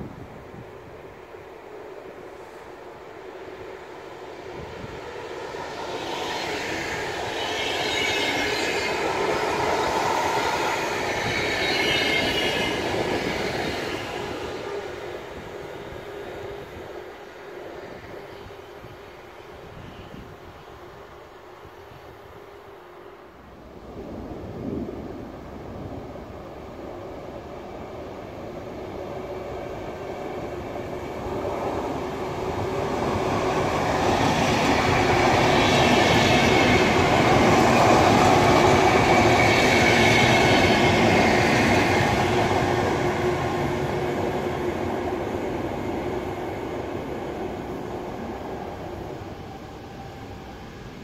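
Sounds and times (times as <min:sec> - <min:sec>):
train wheels rumbling on rails: 0:00.0 - 0:20.6, 0:23.7 - 0:51.0.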